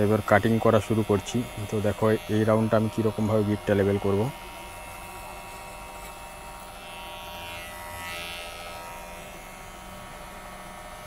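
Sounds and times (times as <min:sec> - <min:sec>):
clipper blades cutting hair: 0:00.0 - 0:11.0
electric hair clipper buzzing: 0:00.0 - 0:11.0.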